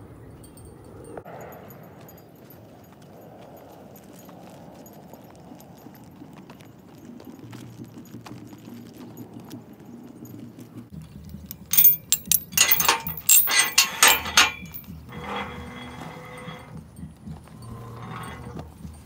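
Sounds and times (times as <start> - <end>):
soft chain scrape: 1.1 - 19.0
metal chain rattling on gate: 1.4 - 19.0.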